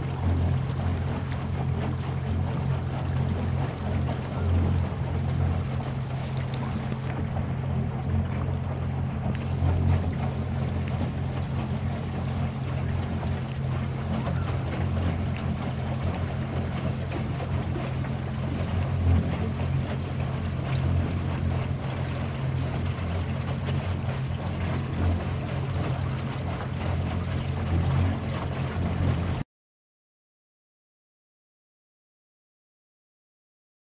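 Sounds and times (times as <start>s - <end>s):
boat motor rumble: 0.0s - 29.4s
water wash: 0.0s - 29.4s.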